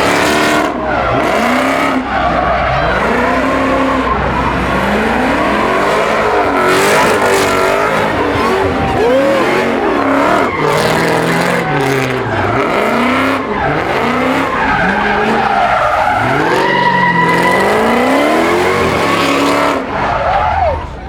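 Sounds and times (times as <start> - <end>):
car engine revving hard: 0.0 - 20.2
tyres squealing and skidding: 0.0 - 21.0.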